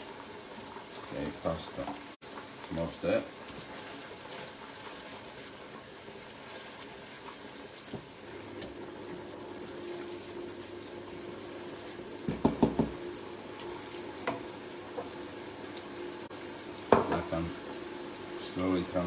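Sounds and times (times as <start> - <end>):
boiling water hissing in a pot: 0.0 - 19.0.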